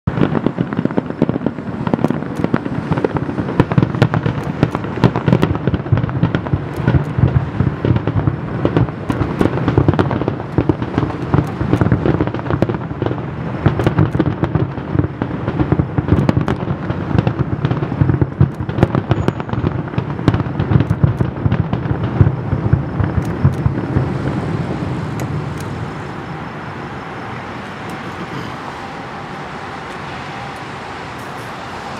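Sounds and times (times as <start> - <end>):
fireworks bursts and booms: 0.1 - 31.9
steady background noise: 0.1 - 31.9.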